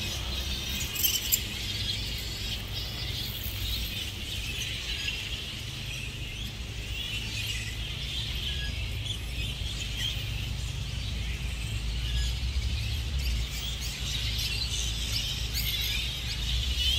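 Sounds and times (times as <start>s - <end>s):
flying foxes squeaking and chattering: 0.0s - 16.9s.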